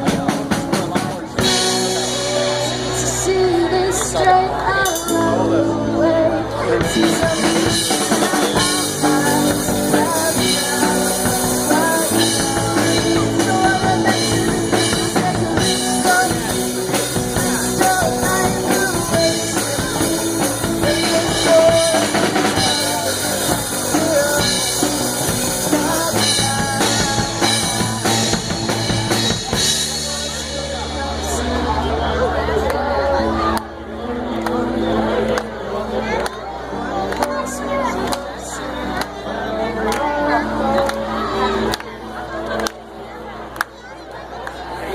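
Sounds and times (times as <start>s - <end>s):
person singing: 0.0s - 42.4s
rock band playing: 0.0s - 42.7s.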